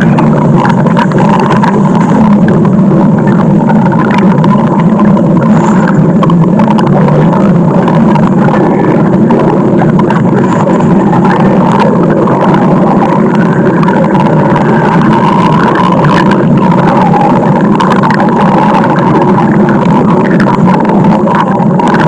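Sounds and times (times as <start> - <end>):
stomach growling: 0.0 - 22.0.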